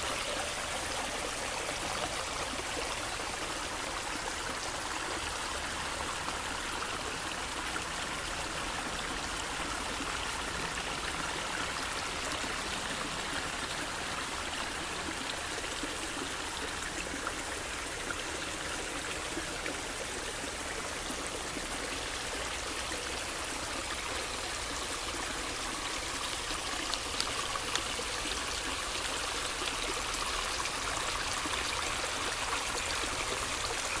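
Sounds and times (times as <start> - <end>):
brook flowing over stones: 0.0 - 34.0.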